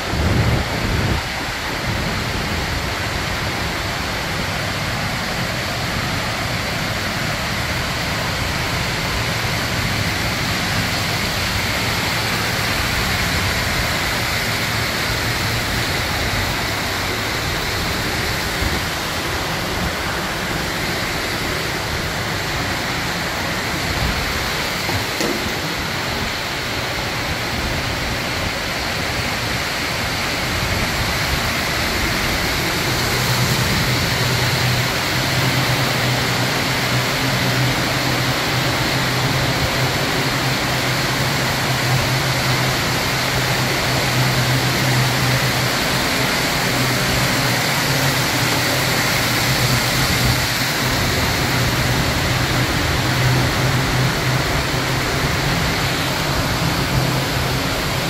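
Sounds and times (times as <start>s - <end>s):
stream running: 0.0s - 58.0s
waterfall rushing: 0.0s - 58.0s.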